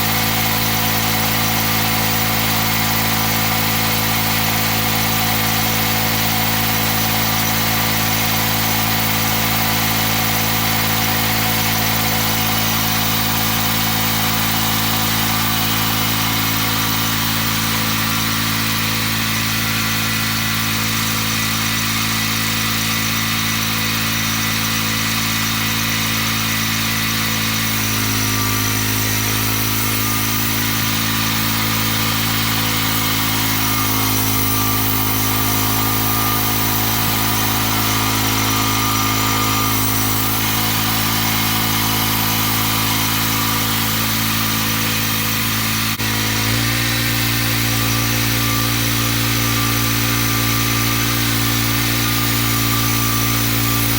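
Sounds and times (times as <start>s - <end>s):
sawmill gasoline engine running: 0.0s - 53.9s.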